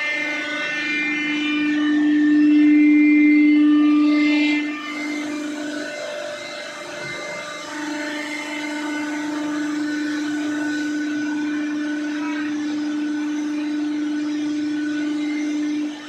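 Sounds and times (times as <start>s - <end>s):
hydraulic press motor humming: 0.0s - 16.0s.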